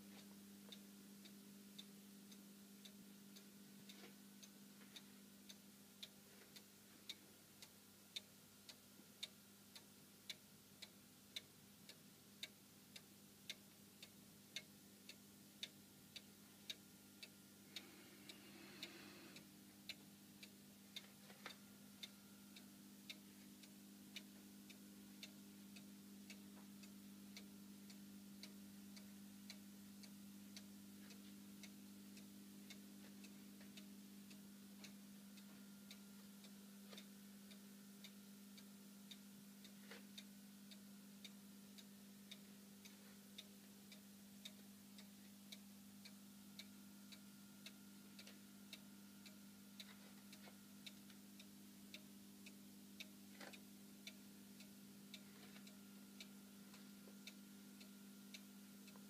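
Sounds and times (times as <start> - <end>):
clock ticking: 0.0 - 59.0
faint steady hum: 0.0 - 59.0.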